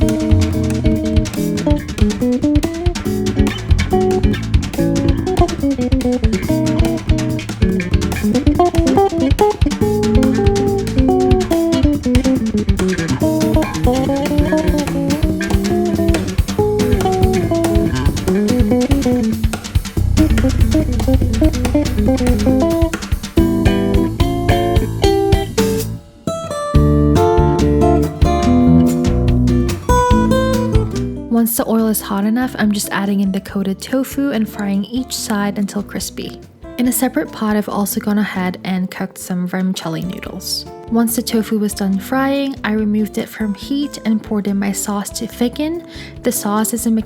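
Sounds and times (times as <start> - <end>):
guitar with bass and drums: 0.0 - 31.4, 32.0 - 38.7.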